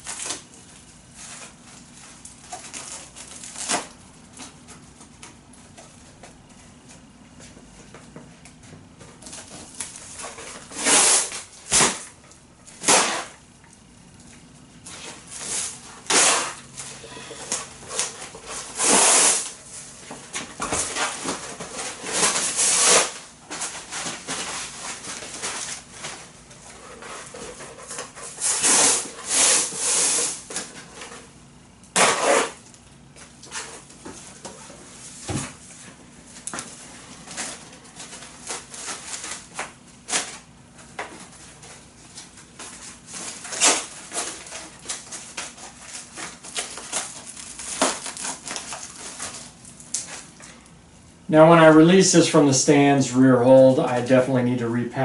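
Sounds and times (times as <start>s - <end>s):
plastic wrap rustling: 0.0s - 6.1s, 9.1s - 31.4s, 32.0s - 50.7s.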